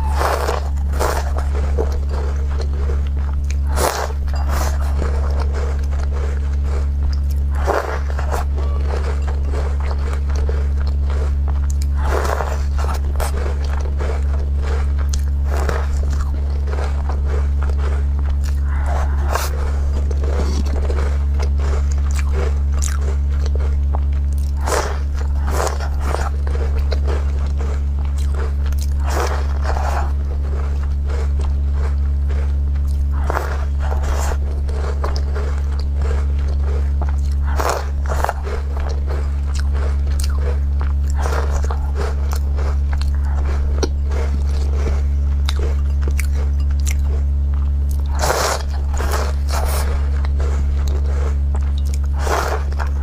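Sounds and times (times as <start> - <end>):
crunching and chewing cookies: 0.0 - 53.0
steady low hum: 0.0 - 53.0.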